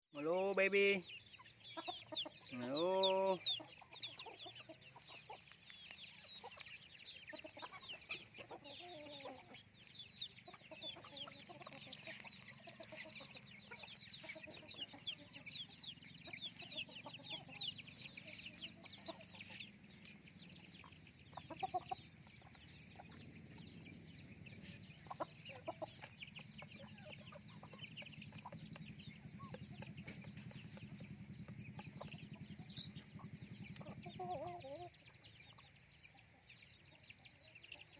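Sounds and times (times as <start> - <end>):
chicks peeping: 0.1 - 37.9
chickens clucking: 0.2 - 37.9.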